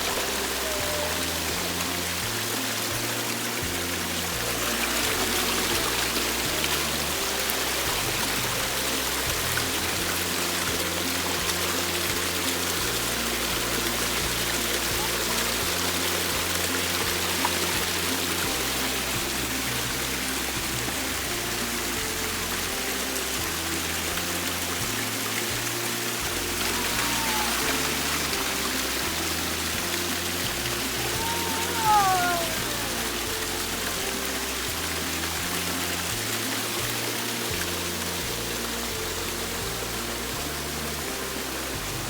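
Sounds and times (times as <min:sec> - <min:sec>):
background music with slow bass: 0:00.0 - 0:42.0
waterfall rushing: 0:00.0 - 0:42.0.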